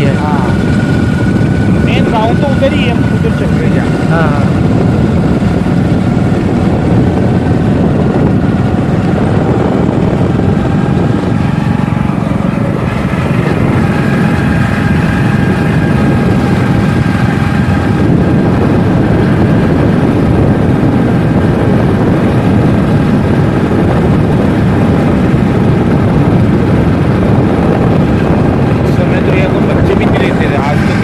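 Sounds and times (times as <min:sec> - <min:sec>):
motorcycle engine rumble: 0:00.0 - 0:31.0.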